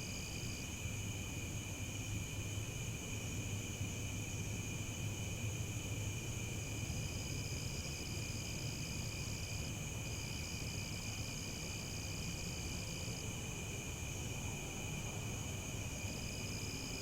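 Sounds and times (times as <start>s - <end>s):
crickets chirping: 0.0s - 17.0s
high-pitched cricket trill: 0.0s - 17.0s.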